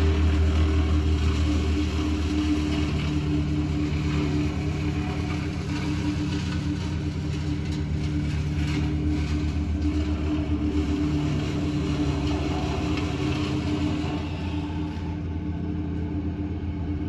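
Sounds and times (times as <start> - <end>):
wood chipper engine running: 0.0 - 17.0.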